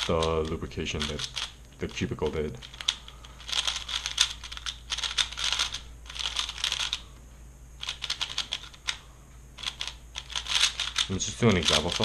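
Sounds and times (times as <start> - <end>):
puzzle cube clicking: 0.0 - 2.0, 2.6 - 7.0, 7.8 - 9.0, 9.6 - 12.0.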